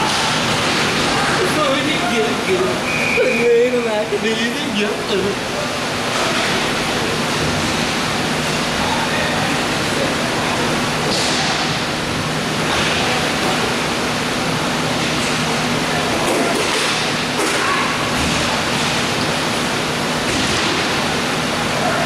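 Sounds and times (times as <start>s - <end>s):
roller rink background noise: 0.0s - 22.0s.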